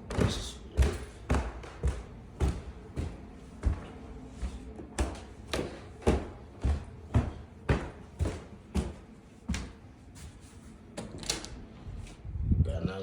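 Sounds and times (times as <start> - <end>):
footsteps going up stairs: 0.0 - 11.3.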